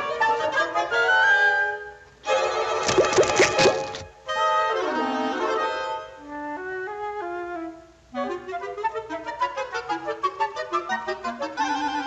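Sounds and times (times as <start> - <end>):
orchestral music with woodwind: 0.0 - 2.8, 4.3 - 12.0.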